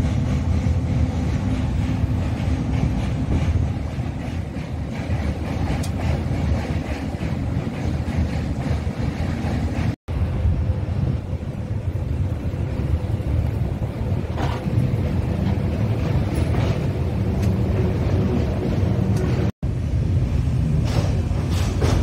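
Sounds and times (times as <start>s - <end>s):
passenger train rumble: 0.0s - 22.0s.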